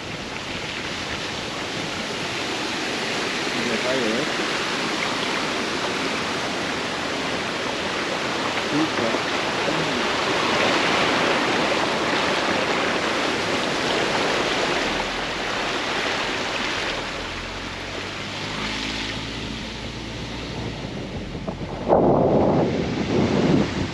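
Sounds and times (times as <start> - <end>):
waterfall pouring and splashing: 0.0 - 21.5.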